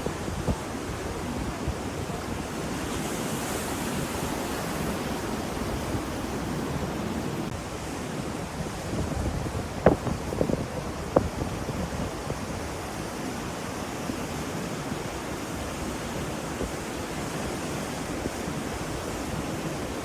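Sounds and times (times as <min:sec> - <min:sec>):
ocean surf washing on shore: 0:00.0 - 0:20.0
wind on microphone: 0:00.0 - 0:20.0.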